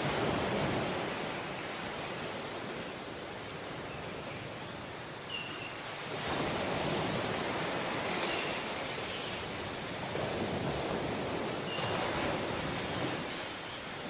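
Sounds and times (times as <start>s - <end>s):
waves washing onto a beach: 0.0s - 14.0s.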